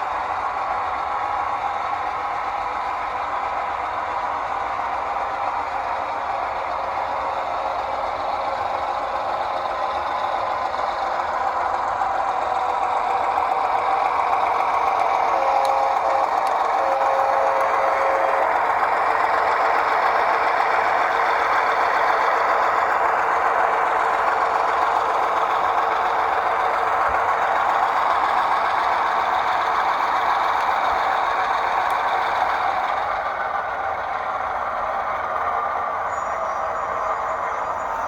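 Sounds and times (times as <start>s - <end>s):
diesel locomotive rushing: 0.0s - 38.0s.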